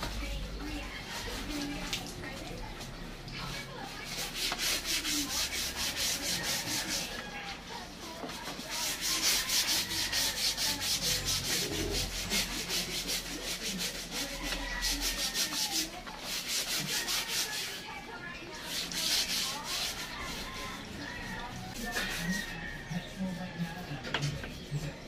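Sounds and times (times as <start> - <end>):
scrubbing motorcycle bodywork: 0.0 - 2.6, 3.5 - 24.8.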